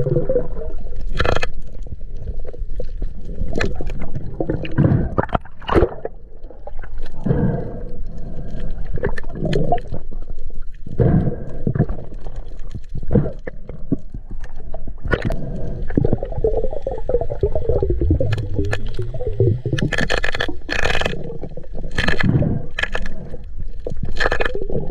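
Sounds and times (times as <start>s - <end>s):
underwater water rushing and gurgling: 0.0s - 24.9s.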